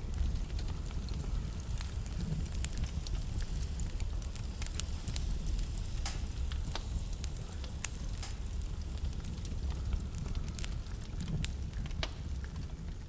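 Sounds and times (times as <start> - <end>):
burning logs crackling and popping: 0.0 - 13.0
fire flames rumbling: 0.0 - 13.0.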